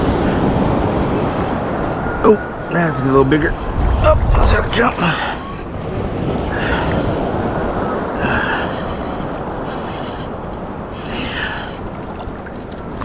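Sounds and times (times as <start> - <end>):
shallow surf washing: 0.0 - 13.0
wind rumbling on microphone: 0.0 - 13.0.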